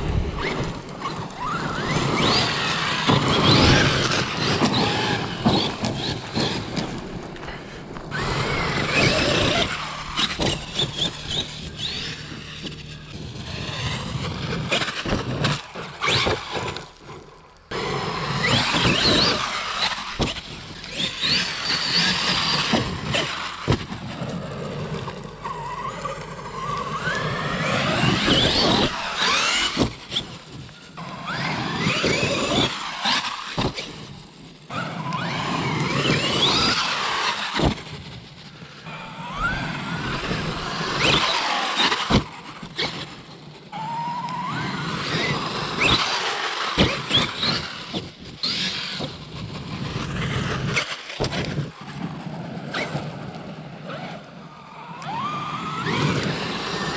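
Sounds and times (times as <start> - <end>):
electric motor whining: 0.0 - 34.1, 34.7 - 38.1, 38.8 - 51.7, 53.9 - 56.9
tyres on grass and gravel: 0.0 - 56.9.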